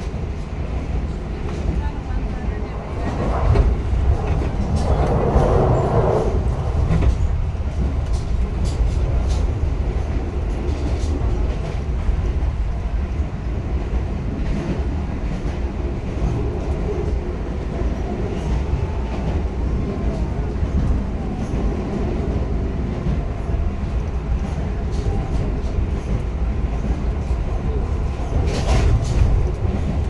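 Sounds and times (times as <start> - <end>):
train rumbling at speed: 0.0 - 30.0.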